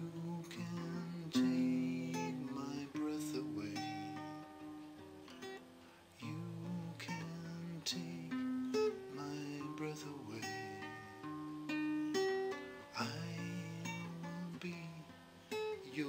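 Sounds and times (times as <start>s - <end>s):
classical guitar fingerpicked: 0.0s - 16.0s.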